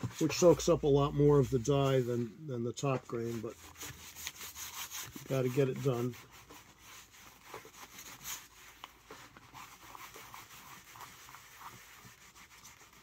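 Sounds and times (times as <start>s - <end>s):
dauber scrubbing leather: 0.0s - 2.2s, 2.8s - 13.0s.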